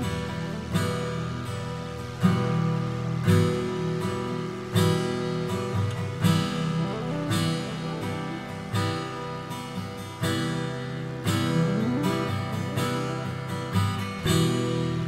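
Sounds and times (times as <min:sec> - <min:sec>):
strummed acoustic guitar chords: 0:00.0 - 0:15.0.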